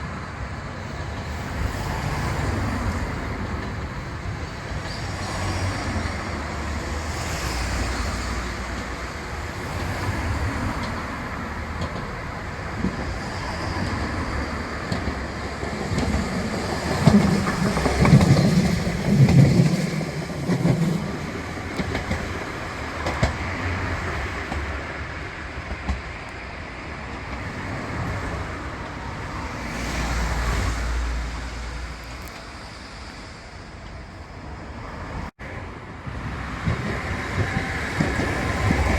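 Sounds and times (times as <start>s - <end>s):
rail vehicle passing with rumble: 0.0s - 38.9s
road and rail traffic noise: 0.0s - 38.9s.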